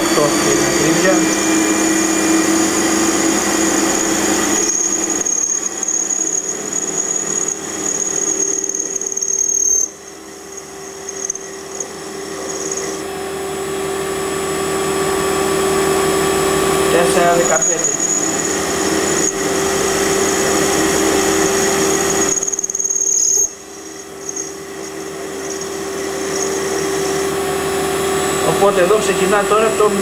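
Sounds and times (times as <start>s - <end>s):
metal lathe cutting with high whine: 0.0s - 30.0s.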